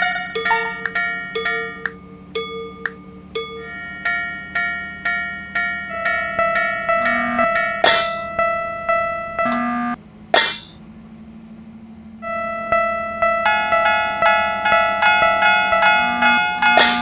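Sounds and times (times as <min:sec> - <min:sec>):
railroad crossing bells ringing: 0:00.0 - 0:09.9, 0:12.2 - 0:17.0.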